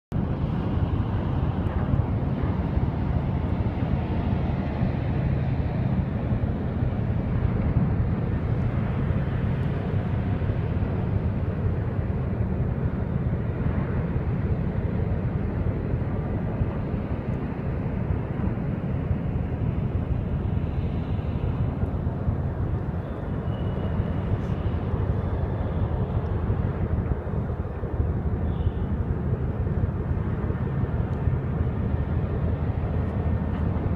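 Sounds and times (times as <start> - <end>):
constant low hum: 0.1 - 33.9.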